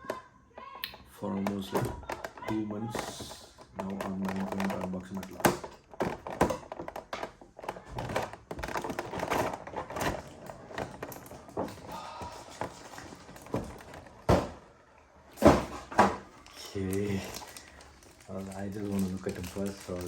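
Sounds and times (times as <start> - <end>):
rustling of box and plastic: 1.2 - 20.0.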